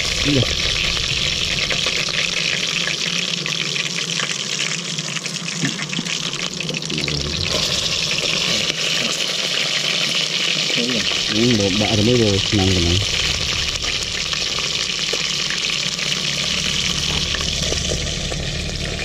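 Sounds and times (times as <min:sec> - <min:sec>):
fish frying in oil: 0:00.0 - 0:19.0.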